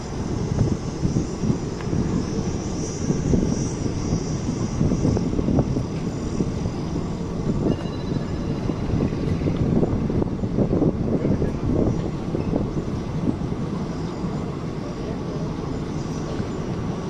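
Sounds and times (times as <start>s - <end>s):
train wheels rumbling on rails: 0.0s - 17.0s
wind rushing: 0.0s - 17.0s.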